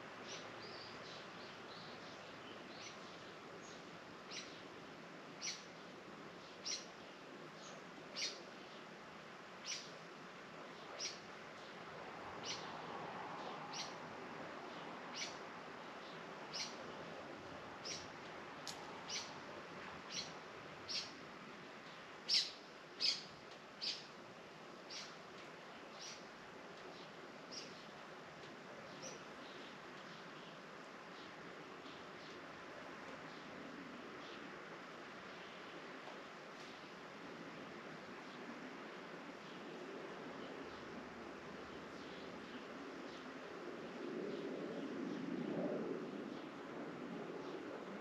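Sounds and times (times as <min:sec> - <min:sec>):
faint outdoor hiss: 0:00.0 - 0:48.0.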